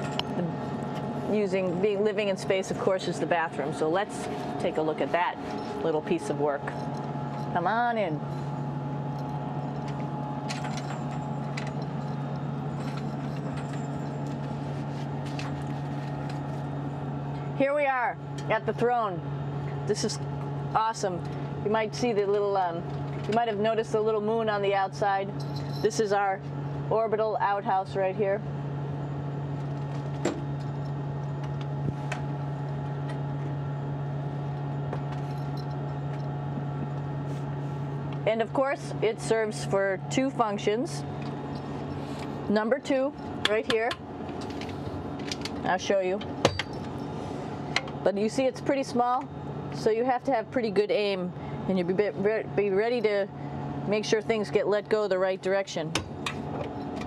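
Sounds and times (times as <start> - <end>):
high equipment whine: 0.0 - 57.0
ventilation fans humming: 0.0 - 57.0.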